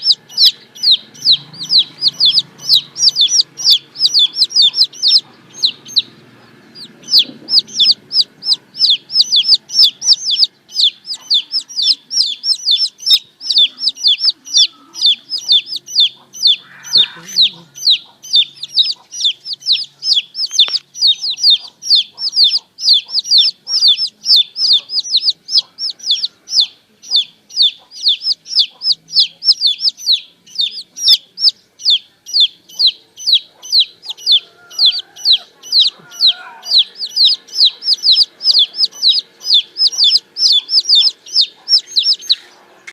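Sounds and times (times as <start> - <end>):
baby chicks peeping: 0.0 - 42.9.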